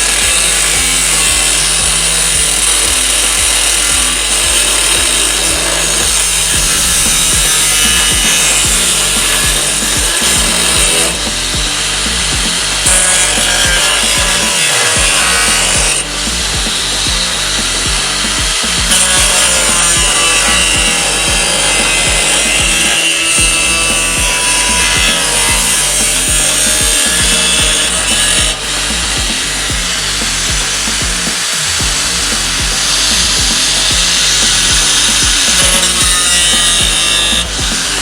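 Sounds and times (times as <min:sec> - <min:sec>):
power grinder on sheet metal: 0:00.0 - 0:38.0.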